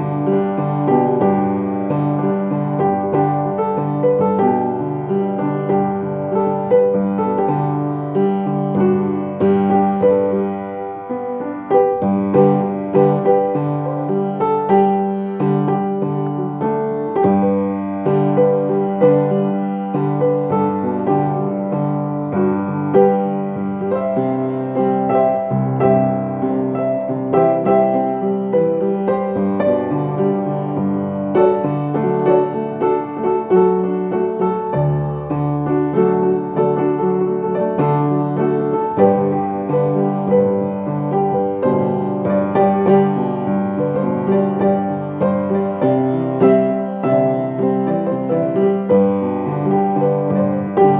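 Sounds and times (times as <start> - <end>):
slow gentle piano piece: 0.0 - 50.9.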